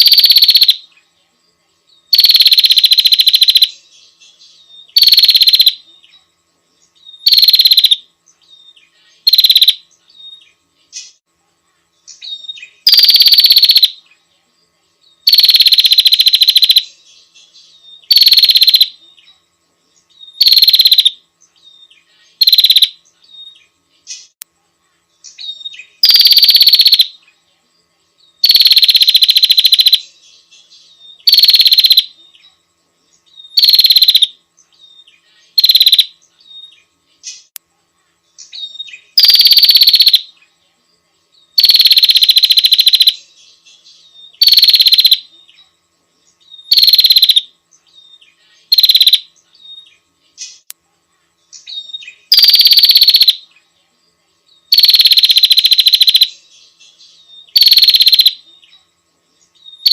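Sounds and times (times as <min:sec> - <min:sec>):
bird pulsing trill: 0:00.0 - 0:01.1, 0:02.0 - 0:11.2, 0:12.1 - 0:14.3, 0:15.2 - 0:24.4, 0:25.2 - 0:27.4, 0:28.3 - 0:37.5, 0:38.4 - 0:40.6, 0:41.5 - 0:50.7, 0:51.5 - 0:53.6, 0:54.6 - 0:59.9.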